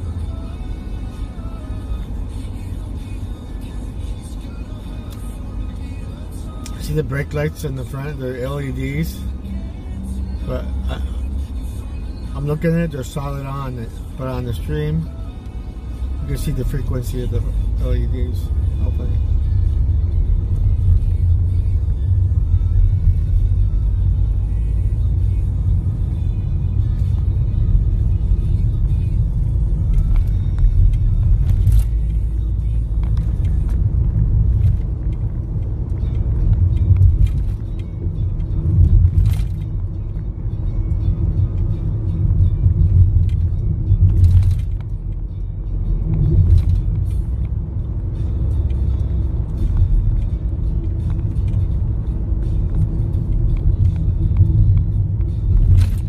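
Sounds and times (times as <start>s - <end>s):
background music: 0.0s - 56.0s
car road and engine rumble: 0.0s - 56.0s.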